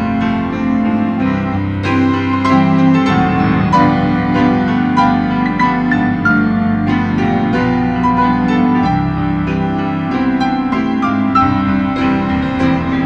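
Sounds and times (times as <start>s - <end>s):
organ chords: 0.0s - 13.0s
piano notes: 0.0s - 13.0s.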